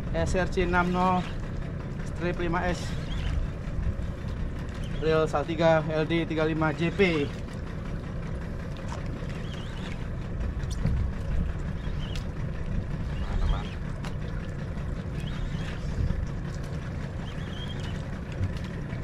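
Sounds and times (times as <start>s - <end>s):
boat engine rumble: 0.0s - 19.0s
water noise: 0.0s - 19.0s.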